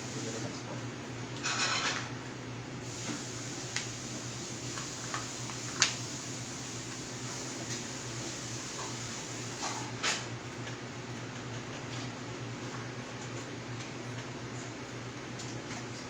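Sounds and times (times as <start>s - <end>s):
fan hum: 0.0s - 16.0s.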